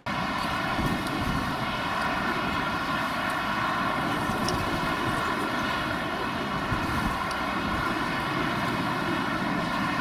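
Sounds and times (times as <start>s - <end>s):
jet engines whining and rumbling: 0.0s - 10.0s.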